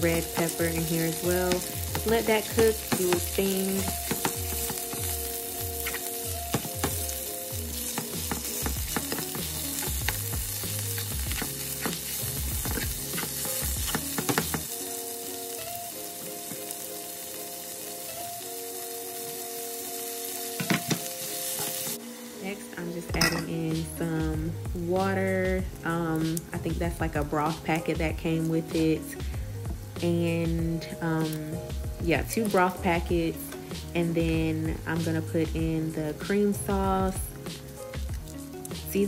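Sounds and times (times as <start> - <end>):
sausage sizzling in frying pan: 0.0 - 25.0, 25.6 - 39.0.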